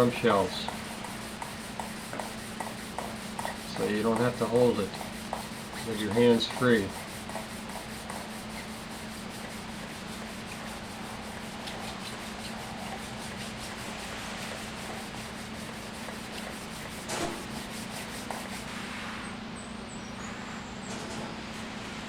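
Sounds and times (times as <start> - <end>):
sandpaper wet sanding wood: 0.0 - 18.8.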